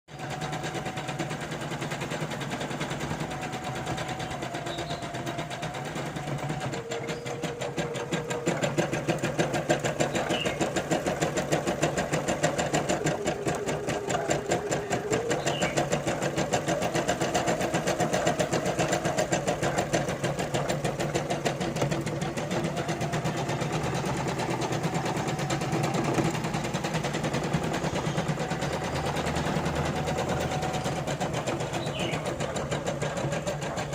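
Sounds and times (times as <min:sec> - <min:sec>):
embroidery machine needle stitching: 0:00.1 - 0:33.9
motor hum: 0:00.1 - 0:33.9.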